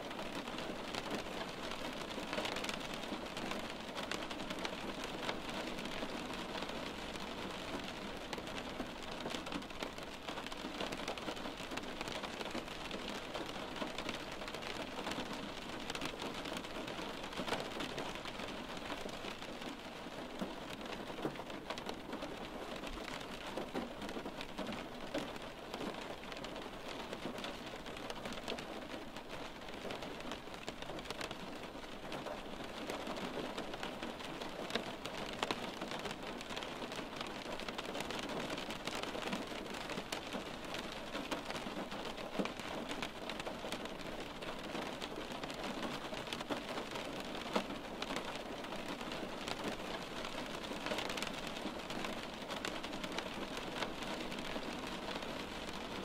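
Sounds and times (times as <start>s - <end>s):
rain tapping on window glass: 0.0s - 56.0s.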